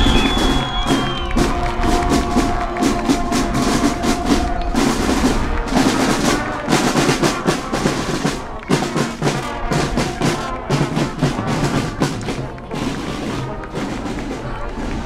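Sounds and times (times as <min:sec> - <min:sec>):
brass instruments: 0:00.0 - 0:15.0
marching band playing: 0:00.0 - 0:15.0
snare and bass drums: 0:00.0 - 0:15.0.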